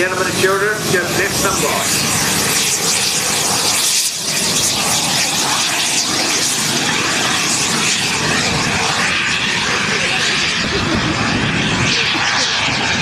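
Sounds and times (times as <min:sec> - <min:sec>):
model aircraft engine droning: 0:00.0 - 0:13.0.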